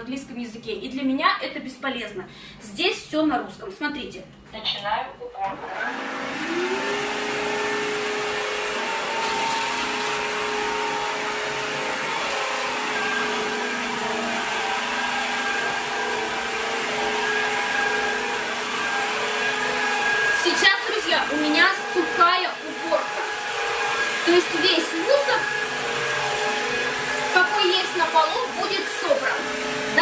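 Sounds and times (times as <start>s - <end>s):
vacuum motor whine: 5.4s - 30.0s.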